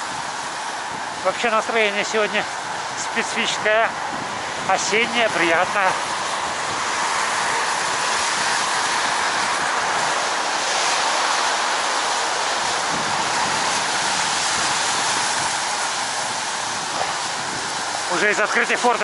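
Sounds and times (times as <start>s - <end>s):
air rushing past microphone: 0.0s - 19.0s
tyres hissing on wet road: 0.0s - 19.0s.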